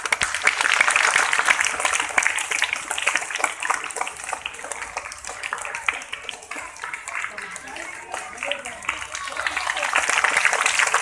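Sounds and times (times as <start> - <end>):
people clapping: 0.0 - 11.0.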